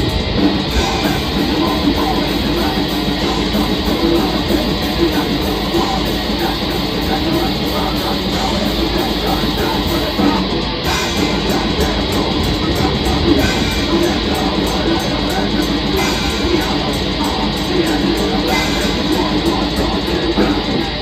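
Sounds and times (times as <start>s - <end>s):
metal band playing live: 0.0s - 21.0s.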